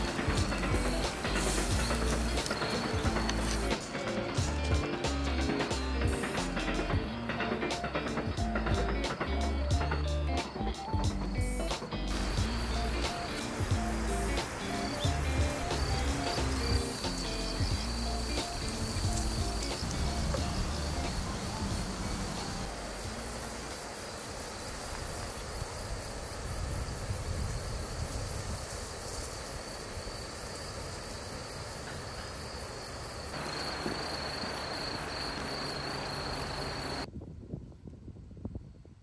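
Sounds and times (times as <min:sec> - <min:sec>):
insects chirring: 0:00.0 - 0:37.1.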